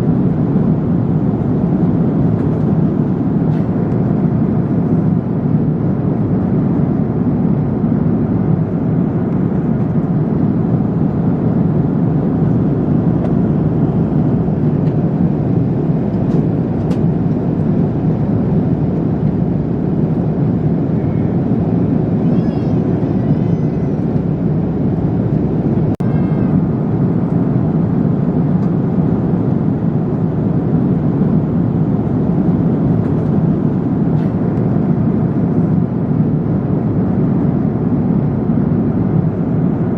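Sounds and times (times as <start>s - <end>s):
airliner cabin engine roar: 0.0s - 39.9s.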